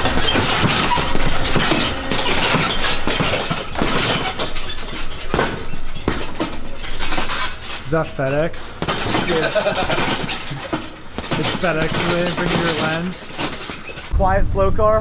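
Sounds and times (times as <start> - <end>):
gloves punching a heavy bag: 0.0 - 7.9, 8.7 - 14.1
gym noise: 0.0 - 14.1.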